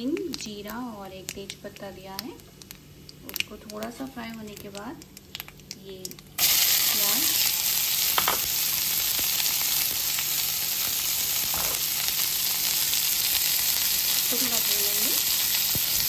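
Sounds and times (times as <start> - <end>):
onion sizzling in oil: 0.1 - 16.0.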